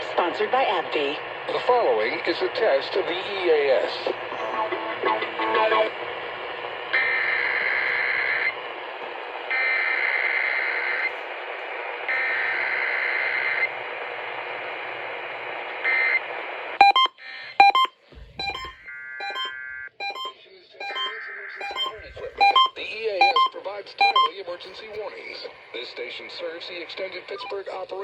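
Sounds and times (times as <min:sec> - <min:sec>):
radio hiss: 0:00.8 - 0:16.7, 0:20.2 - 0:28.0.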